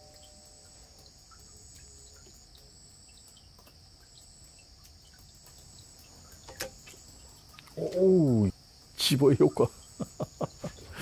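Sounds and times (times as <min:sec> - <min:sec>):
high insect trill: 0:00.0 - 0:11.0
insects chirring: 0:00.0 - 0:11.0.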